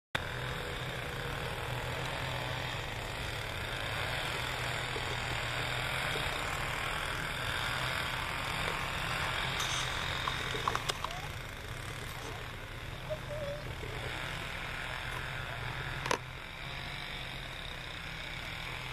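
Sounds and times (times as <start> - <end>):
engine idling: 0.2 - 18.9.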